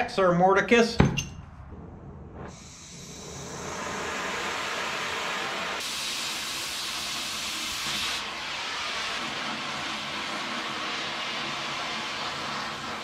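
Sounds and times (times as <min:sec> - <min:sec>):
cutting torch hissing: 0:02.4 - 0:13.0.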